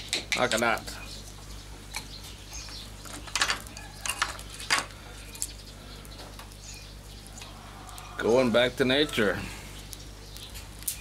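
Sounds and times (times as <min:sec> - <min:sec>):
dry wood cracking: 0:00.3 - 0:11.0.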